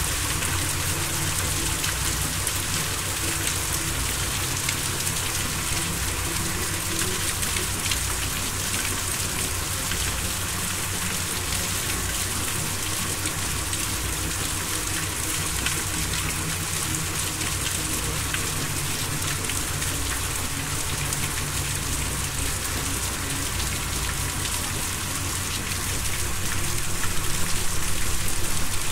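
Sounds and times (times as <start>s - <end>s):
steady rain: 0.0s - 28.9s.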